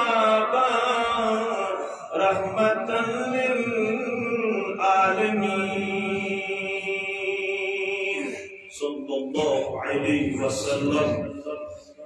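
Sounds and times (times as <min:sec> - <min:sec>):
man chanting over loudspeakers: 0:00.0 - 0:12.0.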